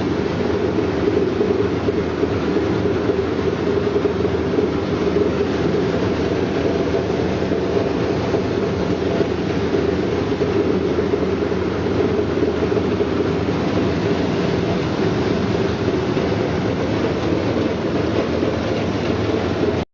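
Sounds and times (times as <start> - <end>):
washing machine mechanical rumble: 0.0 - 19.9.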